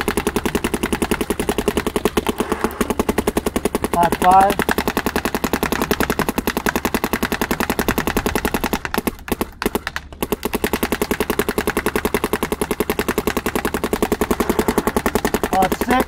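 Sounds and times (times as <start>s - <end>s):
paintball marker firing rapidly: 0.0s - 16.0s.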